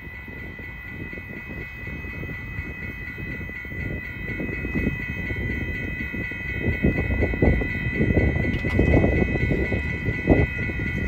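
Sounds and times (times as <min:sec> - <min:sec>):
railroad crossing bell ringing: 0:00.0 - 0:11.0
wind buffeting microphone: 0:00.0 - 0:11.0.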